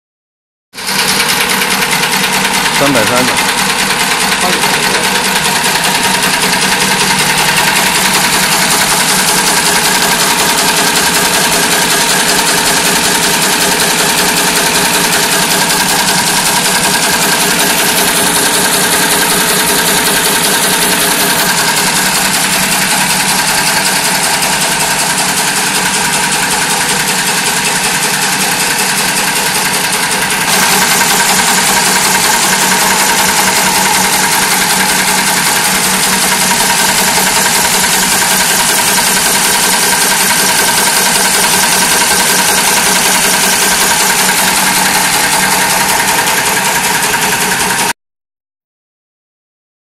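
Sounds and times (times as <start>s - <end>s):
welding machine clattering: 0.8s - 47.9s.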